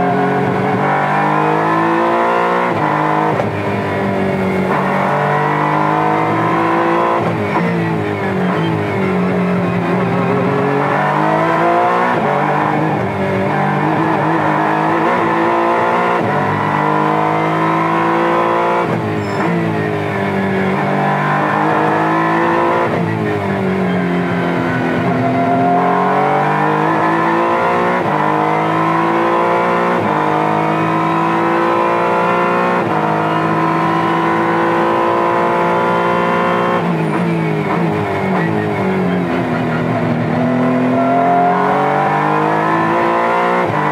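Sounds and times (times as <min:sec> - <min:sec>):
race car engine from cockpit: 0:00.0 - 0:43.9.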